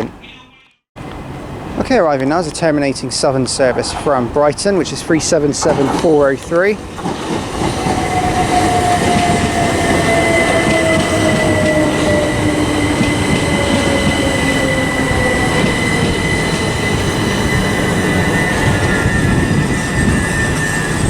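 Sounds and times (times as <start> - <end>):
electric train whine: 1.0 - 21.0
wheels rumbling on rails: 1.0 - 21.0.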